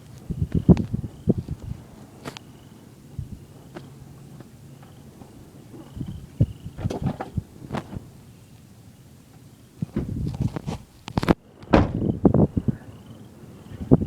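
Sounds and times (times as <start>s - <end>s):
frogs croaking: 0.0s - 14.0s.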